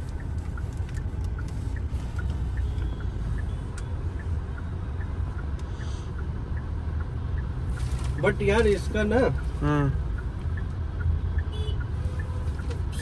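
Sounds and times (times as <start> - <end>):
light ticking: 0.0 - 13.0
road and engine rumble: 0.0 - 13.0.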